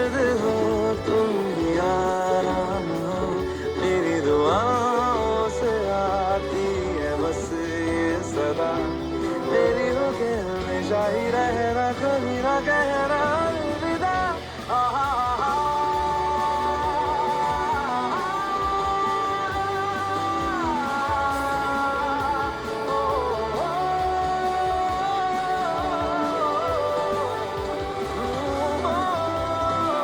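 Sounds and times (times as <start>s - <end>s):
love song with wavering vocals: 0.0s - 30.0s.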